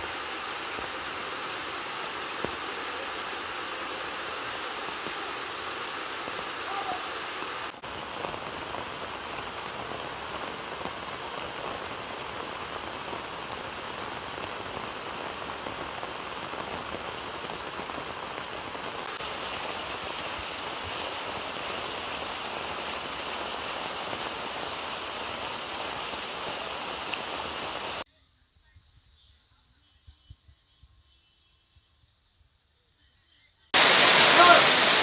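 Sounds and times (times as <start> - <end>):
heavy rain pouring: 0.0 - 28.0, 33.8 - 35.0
rainwater rushing down stone steps: 0.0 - 28.0, 33.8 - 35.0.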